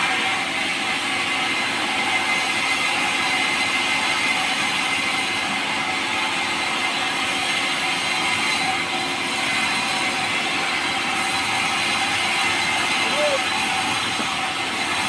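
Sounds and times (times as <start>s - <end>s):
power saw cutting wood: 0.0s - 15.0s.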